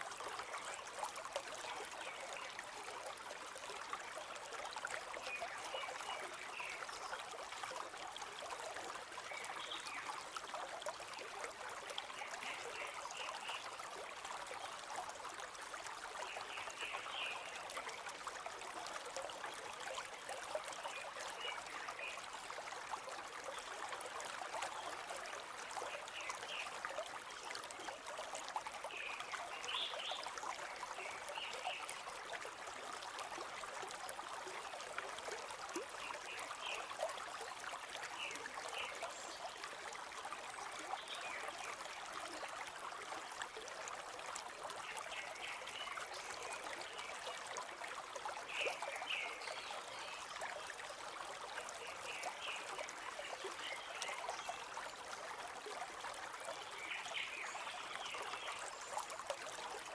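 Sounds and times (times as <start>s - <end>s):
river rushing and trickling: 0.0s - 59.9s.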